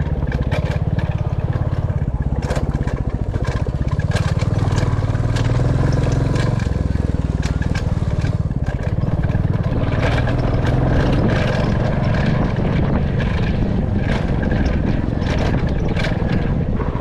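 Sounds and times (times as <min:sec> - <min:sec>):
knocks and rattles on rough road: 0:00.0 - 0:17.0
motorcycle engine running: 0:00.0 - 0:17.0.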